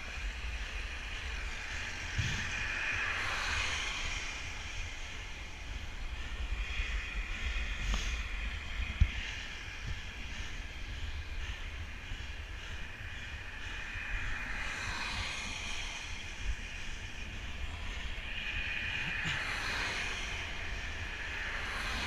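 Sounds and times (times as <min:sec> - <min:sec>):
wet road noise hiss: 0:00.0 - 0:22.0
wind rumbling on microphone: 0:00.0 - 0:22.0.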